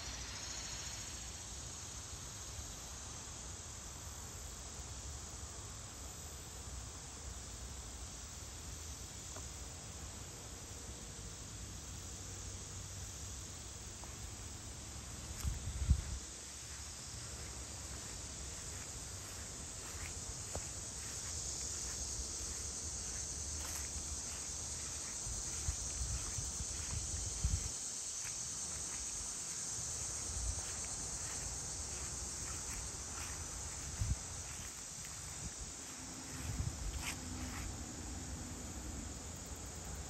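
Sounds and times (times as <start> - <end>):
insects chorus: 0.0 - 40.0.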